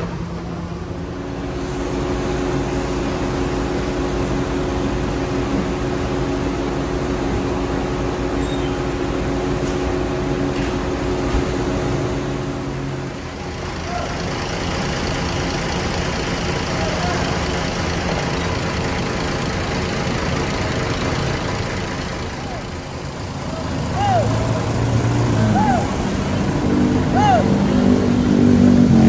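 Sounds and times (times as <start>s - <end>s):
diesel bus engine idling: 0.0s - 29.0s
vehicle idling: 0.0s - 29.0s.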